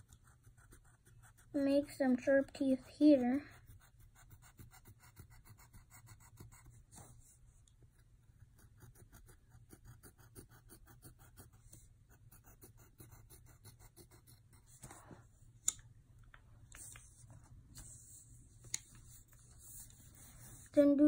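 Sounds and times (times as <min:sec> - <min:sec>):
pencil scratching on paper: 0:00.0 - 0:15.3, 0:16.8 - 0:21.0.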